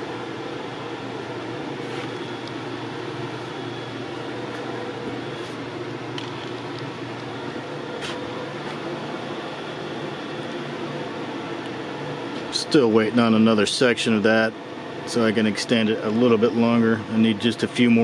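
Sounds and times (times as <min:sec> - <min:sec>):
air filter rush of air: 0:00.0 - 0:18.0.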